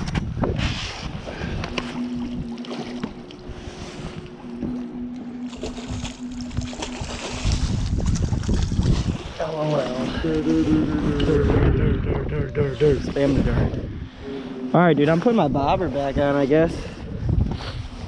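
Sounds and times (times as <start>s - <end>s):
steady low hum: 0.0s - 18.0s
wind on microphone: 0.0s - 18.0s.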